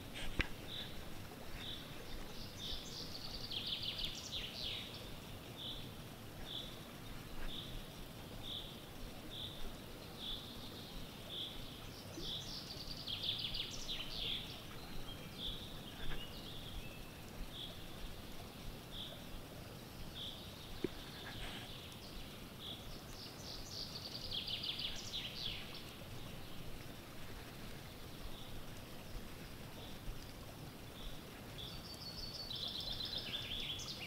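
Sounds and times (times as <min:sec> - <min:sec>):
low outdoor background: 0:00.0 - 0:34.0.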